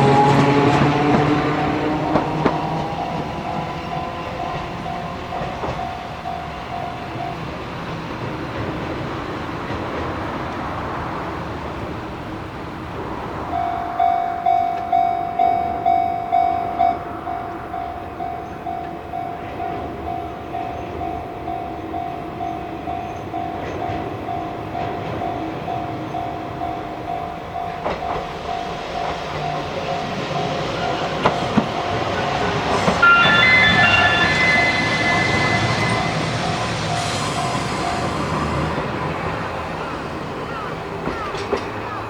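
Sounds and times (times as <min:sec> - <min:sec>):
level crossing warning bell: 0:00.0 - 0:11.2, 0:13.4 - 0:41.2
train on the line: 0:00.0 - 0:42.0.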